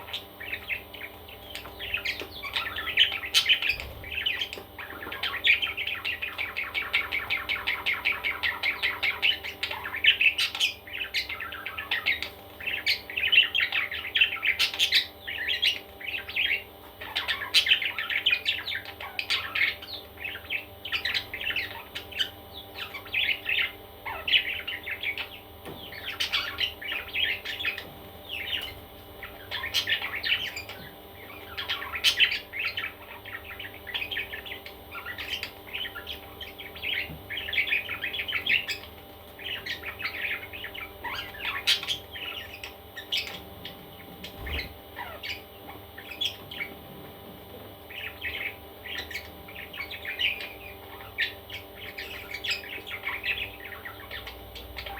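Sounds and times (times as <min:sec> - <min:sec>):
parrot chicks chirping: 0:00.0 - 0:54.9.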